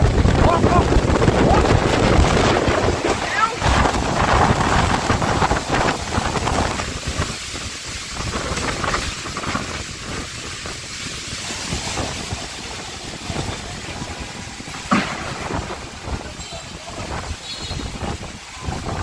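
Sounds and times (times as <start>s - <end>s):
heavy rain hissing: 0.0s - 19.0s
wind buffeting microphone: 0.0s - 19.0s.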